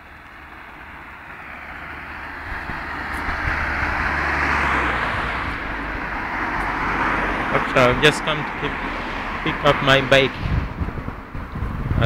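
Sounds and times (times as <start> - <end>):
low engine hum: 0.0 - 12.0
motor vehicle approaching: 0.0 - 12.0.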